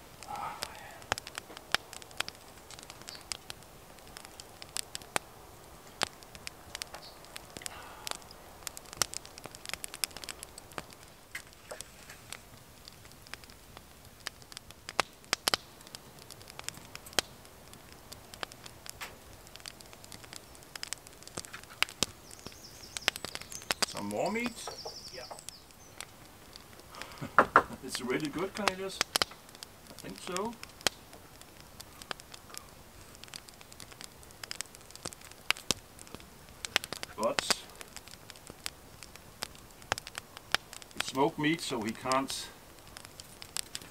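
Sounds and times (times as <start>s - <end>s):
faint hiss: 0.0s - 43.9s
wood fire crackling: 0.0s - 43.9s.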